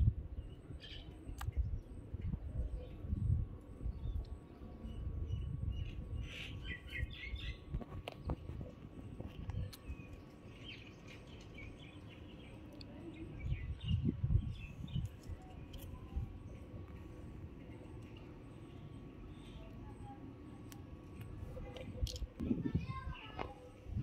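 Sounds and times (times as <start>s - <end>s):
small birds chirping: 0.3s - 24.0s.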